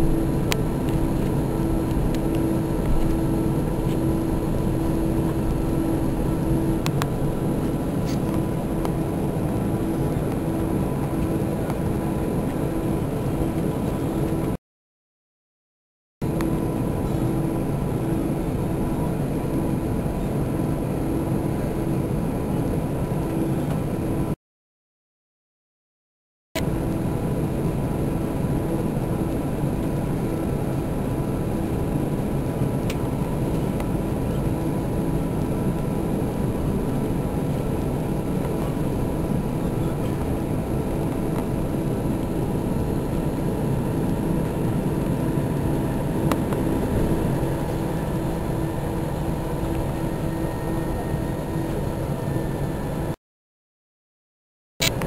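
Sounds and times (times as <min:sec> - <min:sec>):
airplane cabin hum: 0:00.0 - 0:14.6, 0:16.2 - 0:24.4, 0:26.6 - 0:53.2.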